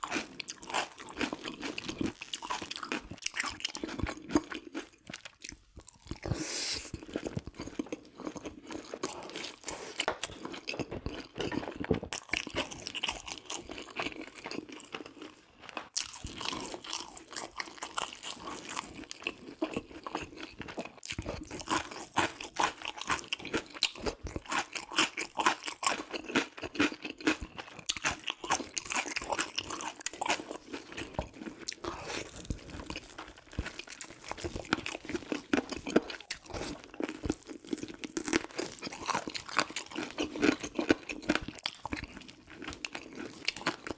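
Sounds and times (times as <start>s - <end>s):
crunching and chewing crispy food: 0.0s - 43.9s.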